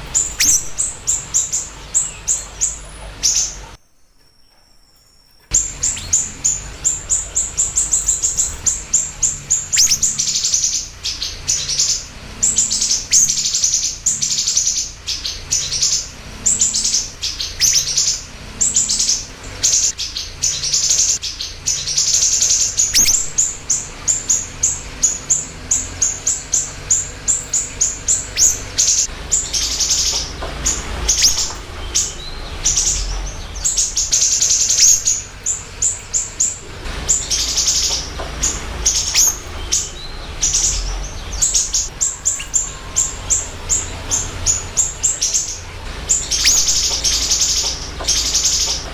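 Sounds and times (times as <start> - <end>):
bird singing high chirps: 0.0 - 48.9.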